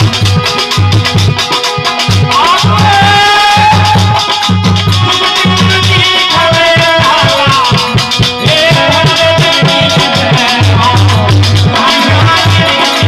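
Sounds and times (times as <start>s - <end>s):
drum beating fast rhythm: 0.0s - 13.0s
jingling hand percussion: 0.0s - 13.0s.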